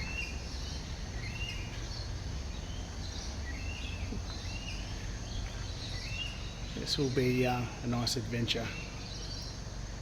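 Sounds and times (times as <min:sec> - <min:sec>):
bird chirping: 0:00.0 - 0:10.0
low outdoor rumble: 0:00.0 - 0:10.0.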